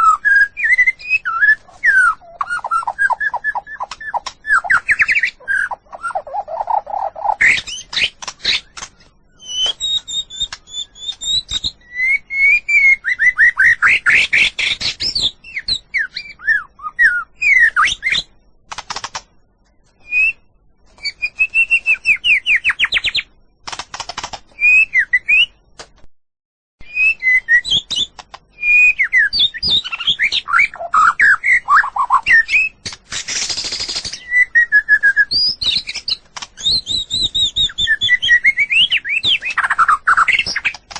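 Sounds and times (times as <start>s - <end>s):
bird singing varied song: 0.0s - 23.6s, 24.4s - 25.8s, 26.8s - 40.9s.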